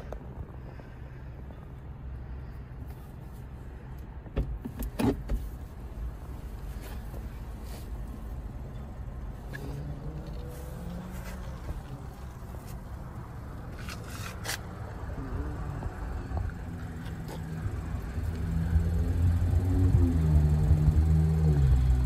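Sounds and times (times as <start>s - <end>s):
low rumble in car cabin: 0.0s - 22.0s.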